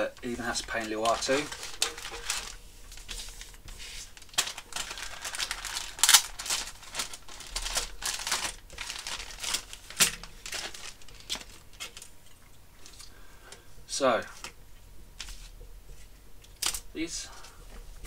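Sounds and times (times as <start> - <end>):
plastic bags crinkling and rustling: 0.0 - 14.6.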